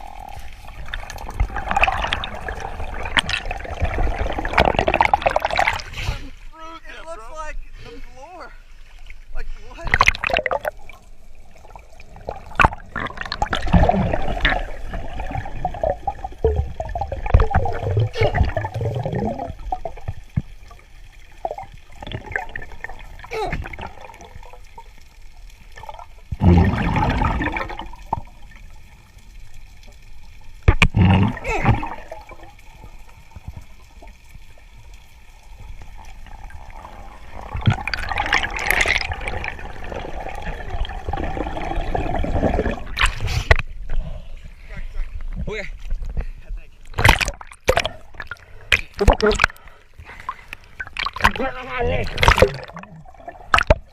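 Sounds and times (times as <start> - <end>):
seawater gurgling and sloshing: 0.0 - 53.9.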